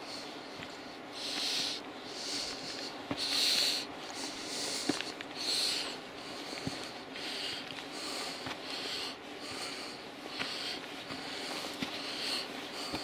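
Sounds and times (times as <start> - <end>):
person breathing hard: 0.0 - 13.0
footsteps on rocky trail: 0.1 - 13.0.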